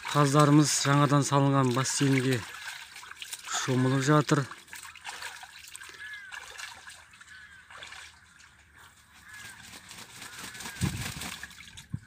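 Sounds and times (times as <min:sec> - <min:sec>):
geese splashing water: 0:00.0 - 0:12.0.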